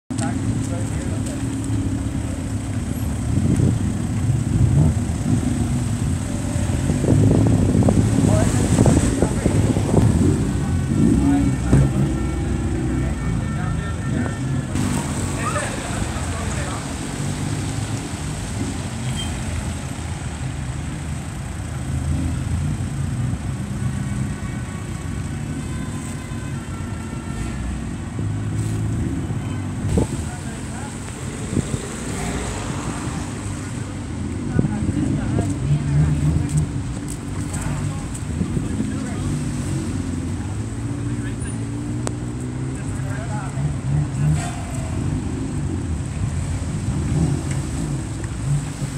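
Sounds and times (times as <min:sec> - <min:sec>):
car engines running slowly: 0:00.1 - 0:48.9.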